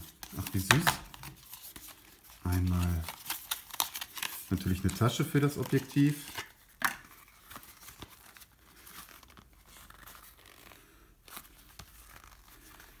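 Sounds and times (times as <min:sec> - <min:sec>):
pouch rustling and crinkling: 0:00.0 - 0:13.0.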